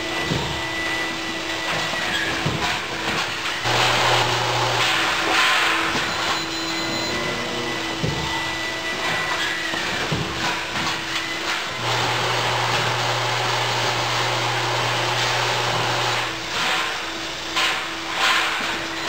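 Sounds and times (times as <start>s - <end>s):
press line machinery din: 0.0s - 19.0s.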